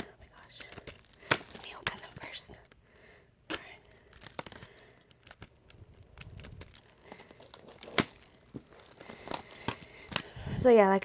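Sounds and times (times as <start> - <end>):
sharp plastic clicks: 0.0 - 10.3
plastic packaging crinkling: 0.0 - 10.4.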